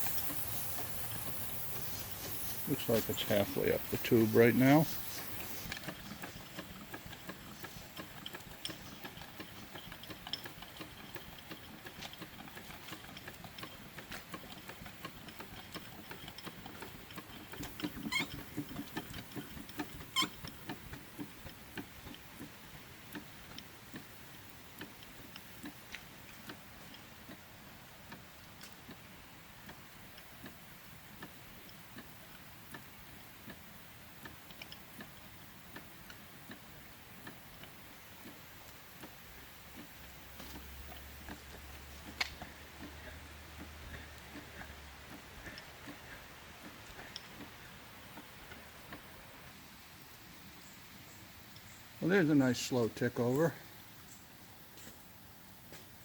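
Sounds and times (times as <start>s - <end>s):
light ticking and clicking: 2.7s - 27.4s, 28.0s - 49.4s.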